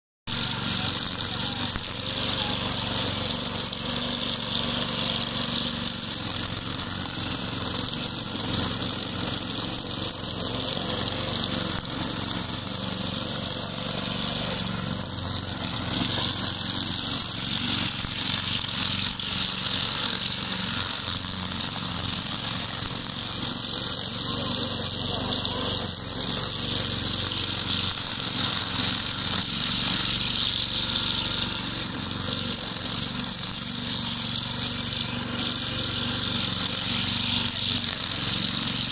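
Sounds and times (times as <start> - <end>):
string trimmer engine running: 0.3 - 38.9
trimmer cutting grass hiss: 0.3 - 38.9.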